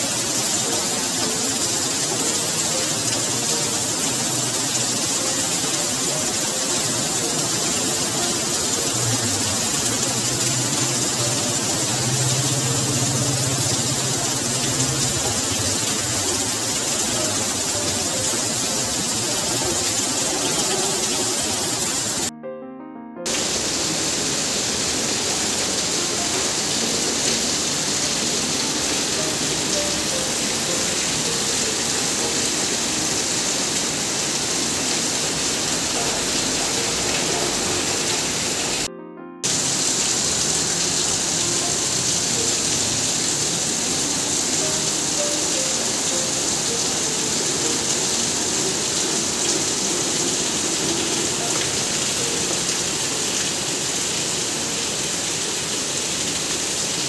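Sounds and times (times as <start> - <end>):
heavy rain pouring: 0.0 - 22.3, 23.3 - 57.0
soft background music: 0.0 - 57.0.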